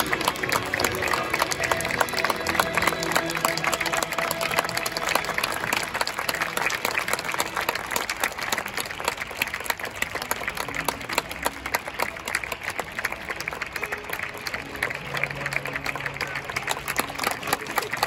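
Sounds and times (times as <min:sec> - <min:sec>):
crowd applauding: 0:00.0 - 0:18.0.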